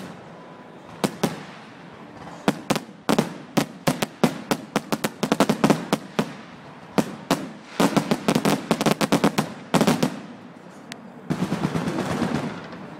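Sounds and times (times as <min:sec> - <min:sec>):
fireworks bangs and crackling: 0:00.0 - 0:10.6, 0:11.2 - 0:12.9.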